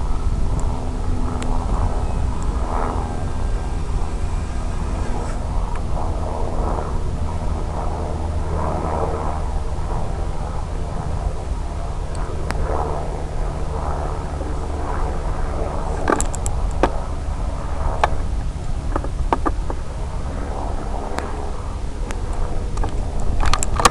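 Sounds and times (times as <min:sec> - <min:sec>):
wind rumble on microphone: 0:00.0 - 0:23.9.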